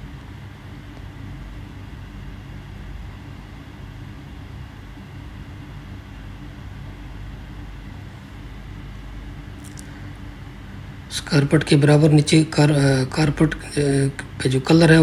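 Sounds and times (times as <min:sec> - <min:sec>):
air conditioning hum: 0:00.0 - 0:15.0.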